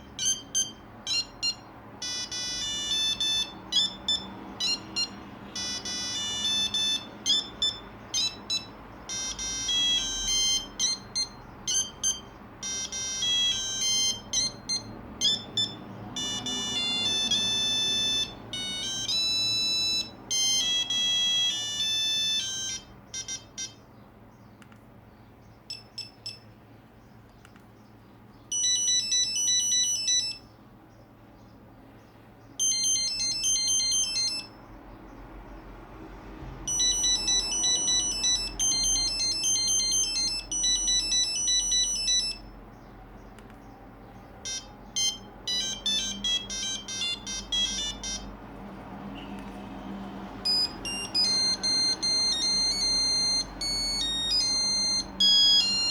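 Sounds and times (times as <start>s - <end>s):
mobile phone ringtone beeping melodies: 0.0s - 24.0s, 25.7s - 26.6s, 28.5s - 30.6s, 32.6s - 34.8s, 36.6s - 42.7s, 44.2s - 55.9s.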